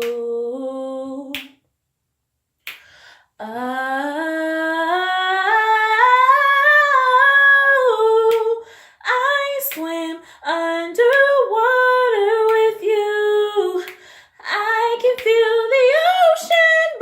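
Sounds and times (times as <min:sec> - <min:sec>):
woman singing wordless notes: 0:00.0 - 0:01.6, 0:03.4 - 0:17.0.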